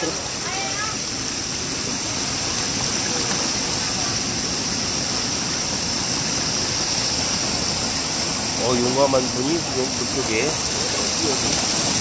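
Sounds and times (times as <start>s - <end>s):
stream water rushing over rocks: 0.0s - 12.0s.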